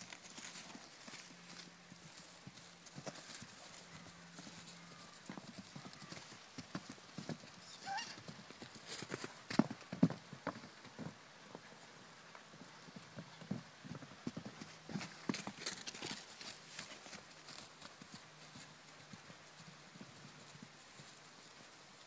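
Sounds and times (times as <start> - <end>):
hooves thudding on grass and sand: 0.0 - 22.0.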